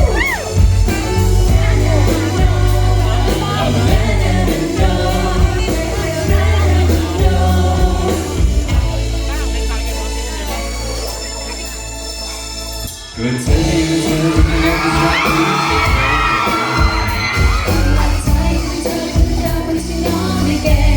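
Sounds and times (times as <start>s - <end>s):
person singing: 0.0s - 11.7s, 12.9s - 20.9s
heavy bass line: 0.0s - 20.9s
steady drum beat: 0.0s - 20.9s.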